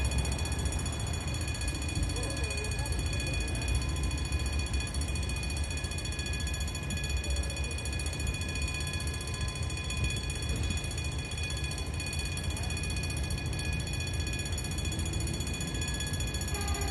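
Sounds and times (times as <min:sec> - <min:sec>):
road traffic rumble: 0:00.0 - 0:05.8, 0:08.9 - 0:16.9
crossing warning bells ringing: 0:00.0 - 0:16.9.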